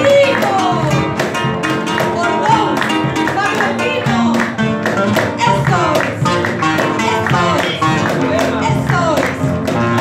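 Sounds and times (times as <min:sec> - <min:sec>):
woman singing into microphone: 0:00.0 - 0:01.2, 0:01.8 - 0:09.6.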